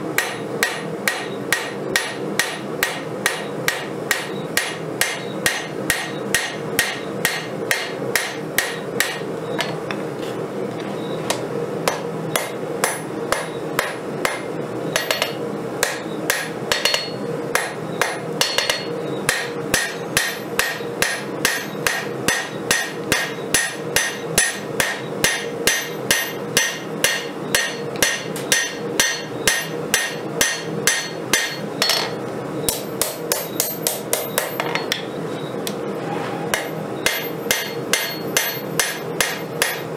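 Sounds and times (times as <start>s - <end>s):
hammer ringing on anvil: 0.2s - 9.8s, 11.9s - 14.4s, 15.0s - 35.2s, 36.5s - 39.9s.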